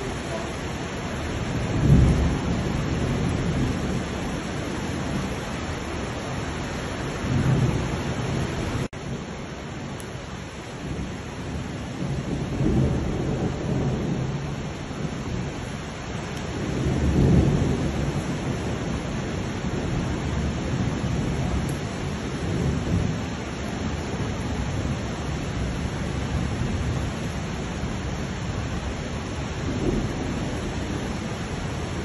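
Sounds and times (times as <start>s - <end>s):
floodwater roaring: 0.0s - 32.0s.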